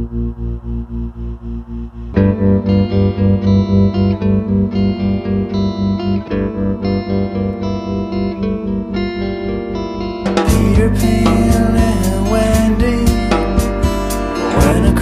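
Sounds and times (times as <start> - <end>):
guitar-led post-rock music: 0.0 - 15.0.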